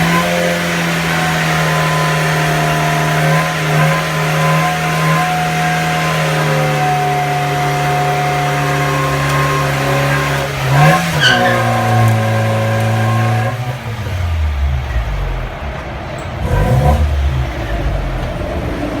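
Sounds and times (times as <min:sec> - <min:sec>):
car engine at high revs: 0:00.0 - 0:19.0
wheels spinning: 0:00.0 - 0:19.0.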